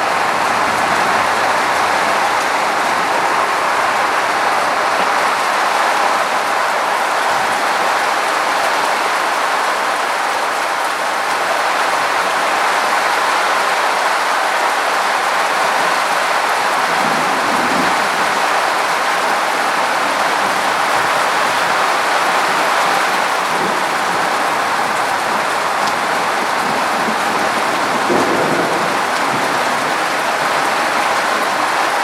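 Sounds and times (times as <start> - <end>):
rain pouring: 0.0 - 32.0.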